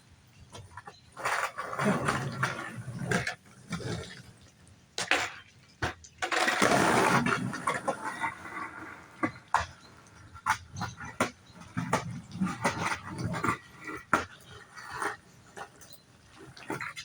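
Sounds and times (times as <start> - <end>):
skateboard wheels rolling on wet pavement: 0.0 - 17.0
skateboard clacking: 0.4 - 17.0.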